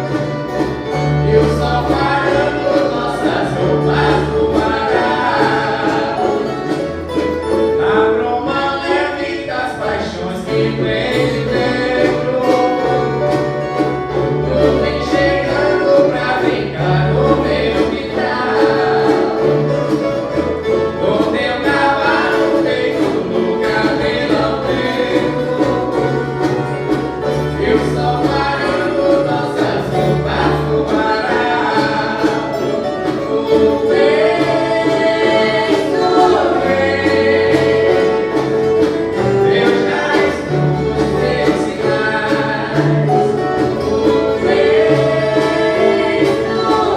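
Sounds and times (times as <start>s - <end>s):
strummed and plucked strings: 0.0s - 46.9s
voices singing together: 0.0s - 46.9s.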